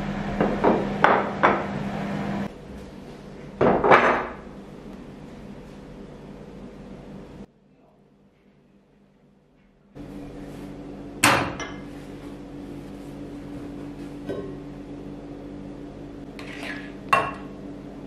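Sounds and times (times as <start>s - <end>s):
electric hum: 0.0s - 8.2s, 9.0s - 18.0s.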